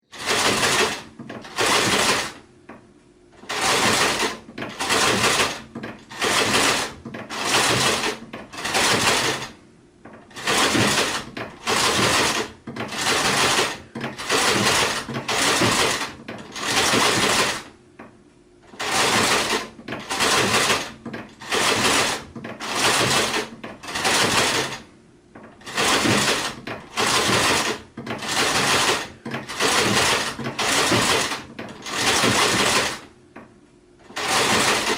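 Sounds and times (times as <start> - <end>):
sewing machine stitching: 0.0 - 2.4, 3.4 - 17.8, 18.6 - 33.1, 34.0 - 34.9.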